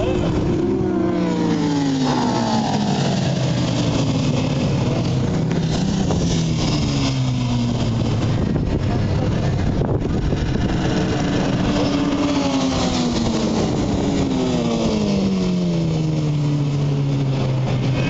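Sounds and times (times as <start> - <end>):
motorcycle passing by: 0.0 - 18.0
motorcycles racing: 0.0 - 18.0.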